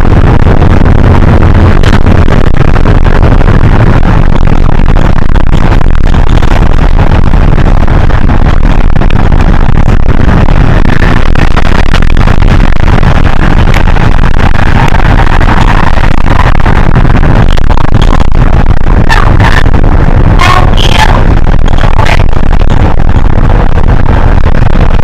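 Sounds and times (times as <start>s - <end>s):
bus diesel engine: 0.0s - 25.0s
road noise: 0.0s - 25.0s.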